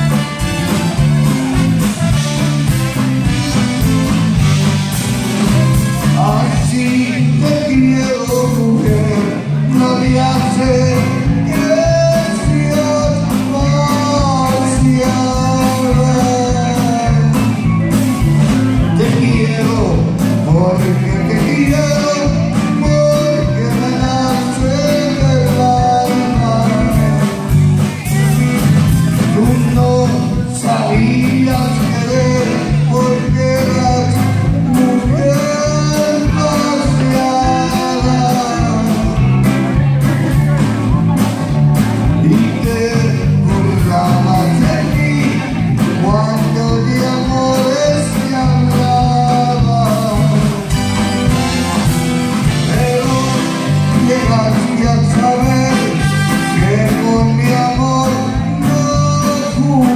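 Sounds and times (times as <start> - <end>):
blues-rock band playing: 0.0 - 59.9
person singing: 5.4 - 59.9.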